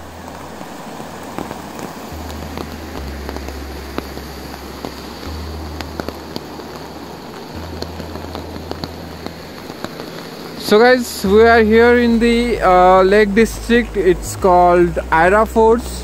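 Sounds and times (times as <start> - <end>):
rocky stream rushing: 0.0 - 16.0
sharp ticks of raindrops: 0.0 - 16.0
steady rain falling: 0.0 - 16.0.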